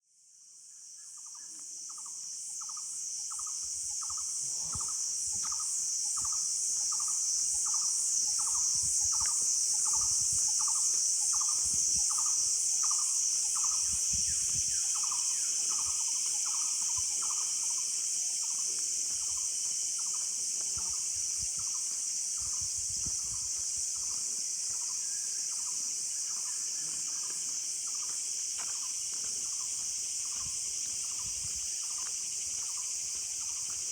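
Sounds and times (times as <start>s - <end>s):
insect chorus buzzing: 0.2s - 33.9s
short repeated insect call: 0.2s - 33.9s.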